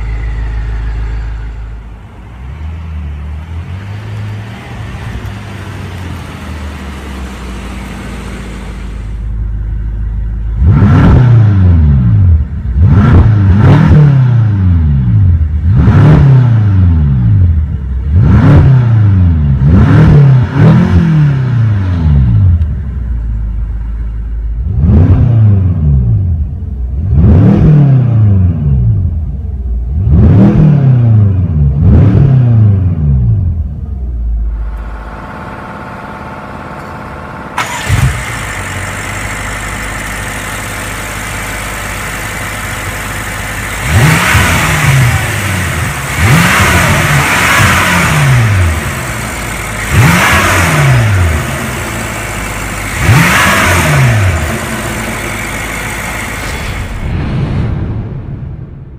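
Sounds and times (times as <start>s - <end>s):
car engine idling and revving: 0.0s - 58.9s.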